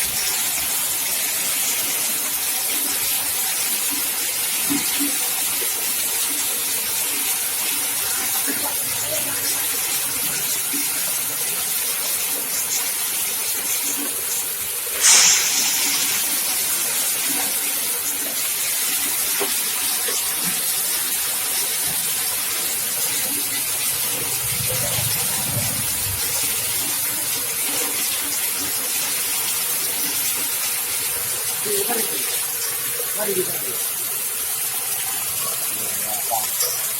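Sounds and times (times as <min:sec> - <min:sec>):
nut-cracking machine hissing: 0:00.0 - 0:36.9.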